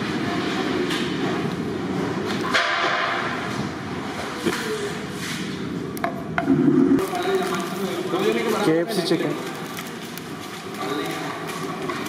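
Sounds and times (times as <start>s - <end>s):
rumbling kitchen din: 0.0s - 12.0s.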